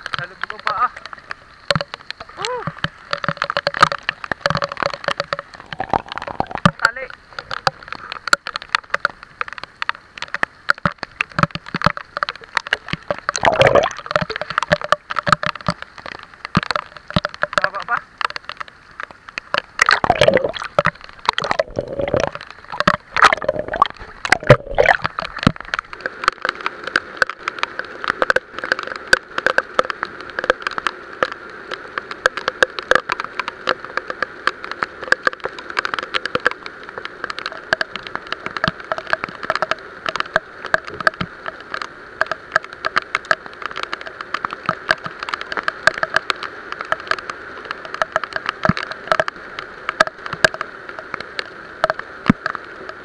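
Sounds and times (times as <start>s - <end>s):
heavy rain on water: 0.0s - 53.0s
water sloshing and splashing: 0.0s - 53.0s.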